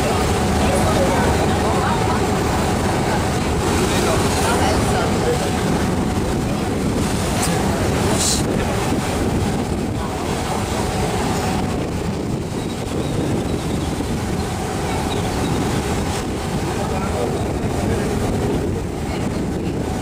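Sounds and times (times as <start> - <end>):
boat engine rumbling: 0.0 - 20.0
wind buffeting microphone: 0.0 - 20.0.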